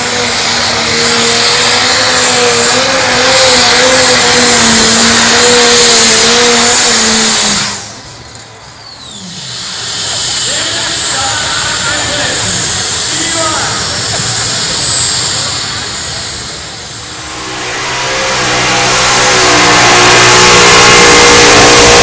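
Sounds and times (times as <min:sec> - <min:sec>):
tractor engine at full power: 0:00.0 - 0:22.0.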